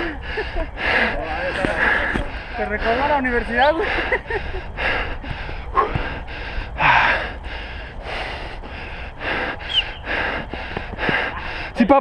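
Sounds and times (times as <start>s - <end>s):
person panting heavily: 0.0s - 12.0s.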